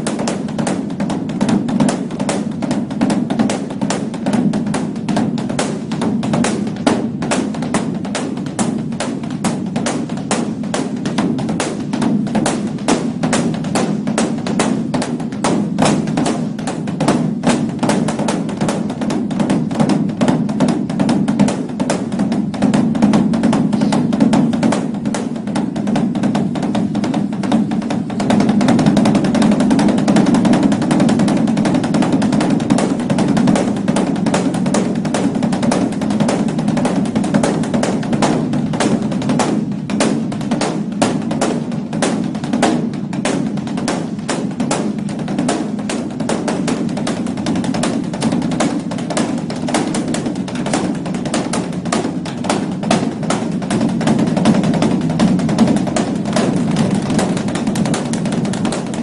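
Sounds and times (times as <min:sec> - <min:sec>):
large drum beaten rapidly: 0:00.0 - 0:59.0.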